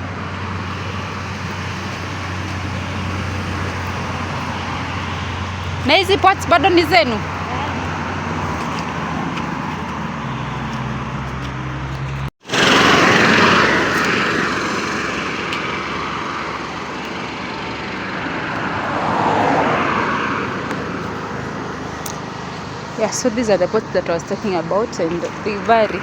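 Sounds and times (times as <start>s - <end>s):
road traffic rumble: 0.0s - 26.0s
vehicle passing: 0.0s - 26.0s.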